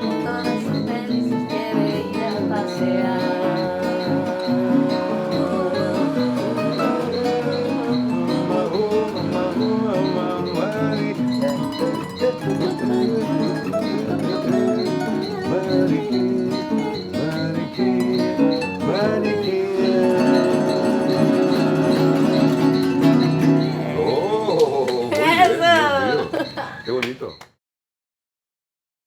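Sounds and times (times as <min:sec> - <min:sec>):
sliding notes: 0:00.0 - 0:26.0
plucked string music: 0:00.0 - 0:26.1
high ticking: 0:00.0 - 0:27.4.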